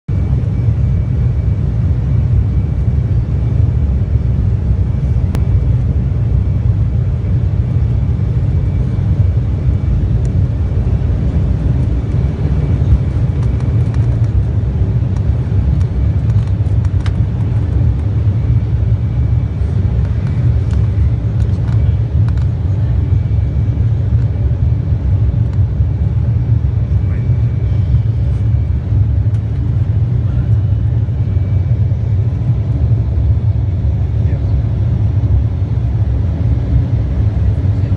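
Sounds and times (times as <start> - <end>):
airliner cabin engine rumble: 0.1 - 37.9.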